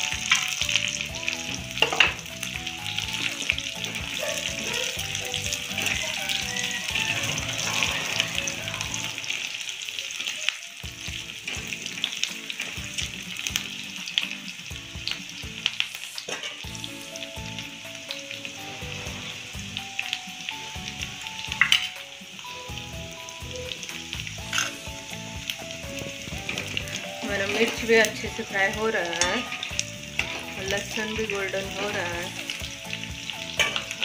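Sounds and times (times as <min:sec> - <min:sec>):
faint background music: 0:00.0 - 0:34.0
garlic sizzling in hot oil: 0:00.0 - 0:34.0.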